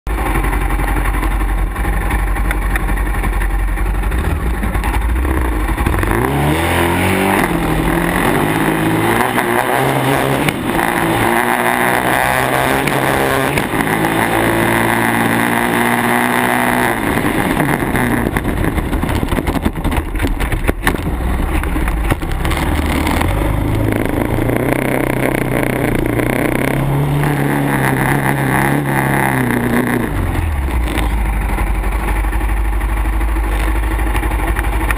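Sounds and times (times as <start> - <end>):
quad engine accelerating: 0.1 - 34.9.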